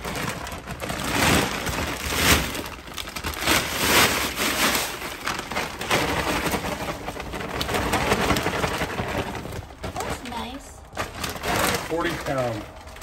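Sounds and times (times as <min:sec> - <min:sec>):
bird seed sack rustling: 0:00.0 - 0:12.9.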